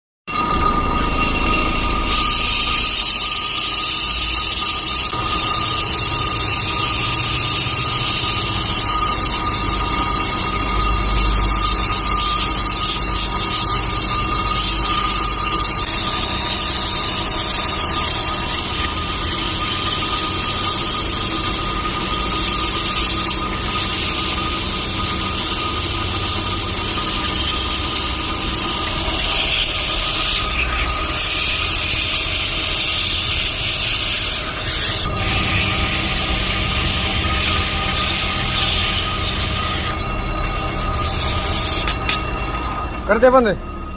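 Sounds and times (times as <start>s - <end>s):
abrasive scraping brake disc: 0.3s - 43.9s.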